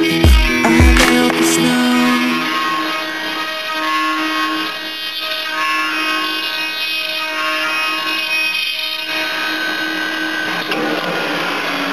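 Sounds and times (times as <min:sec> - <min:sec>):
spindle motors whining: 0:00.0 - 0:11.9.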